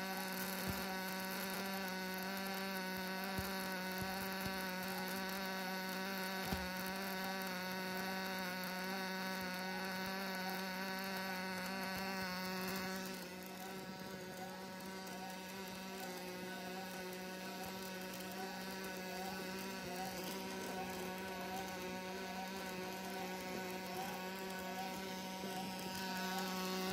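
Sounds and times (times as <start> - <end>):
hiss: 0.0 - 26.9
welding machine electrical buzz: 0.0 - 26.9.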